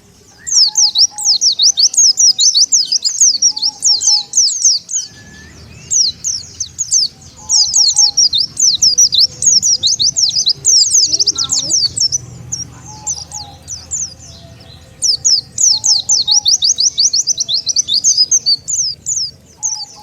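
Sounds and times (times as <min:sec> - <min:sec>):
birds twittering high chirps: 0:00.0 - 0:20.0.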